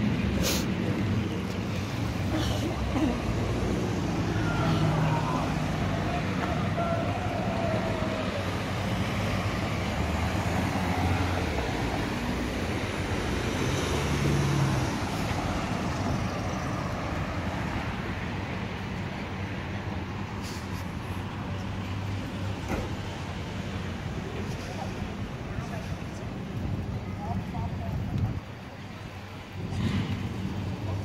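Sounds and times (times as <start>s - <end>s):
car engines running: 0.0s - 31.0s
street traffic noise: 0.0s - 31.0s.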